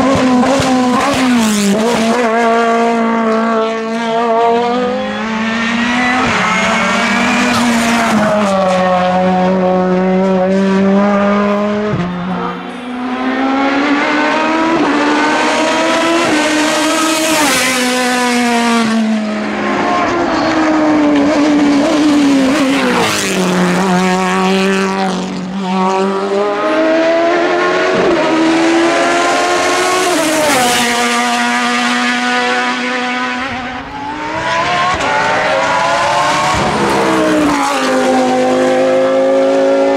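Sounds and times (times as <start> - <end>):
race car engines at full throttle: 0.0 - 39.9.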